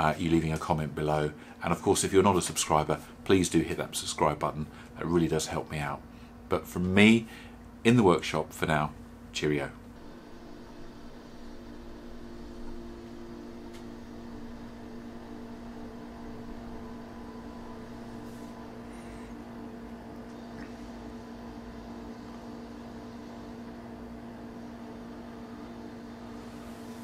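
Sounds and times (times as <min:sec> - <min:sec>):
electrical hum with low rumble: 0:00.0 - 0:27.0.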